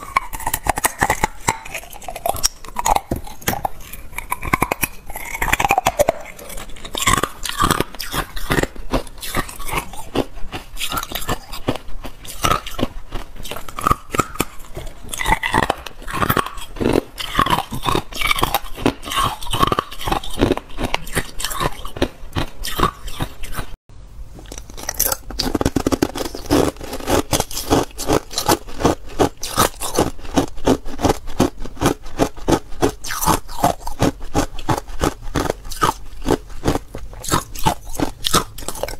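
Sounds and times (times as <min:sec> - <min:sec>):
ice crunching while chewed: 0:00.0 - 0:23.8, 0:24.4 - 0:38.9.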